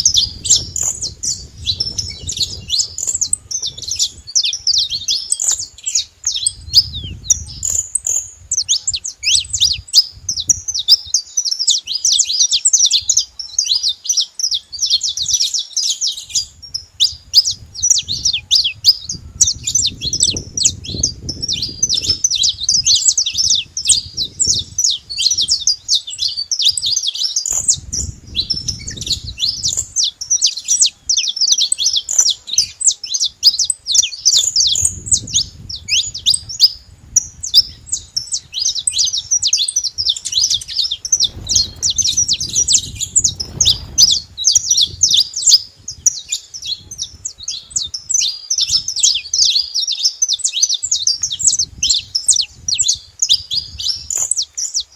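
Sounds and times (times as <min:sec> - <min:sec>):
bird chirping song: 0:00.0 - 0:54.9.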